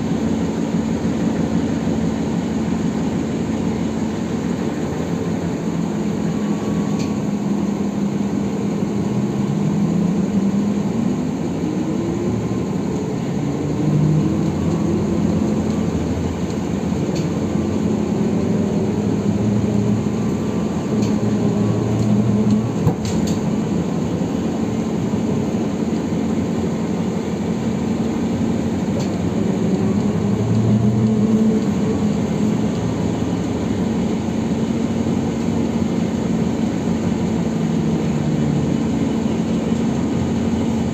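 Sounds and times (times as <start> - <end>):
road noise and body rattle: 0.0 - 40.9.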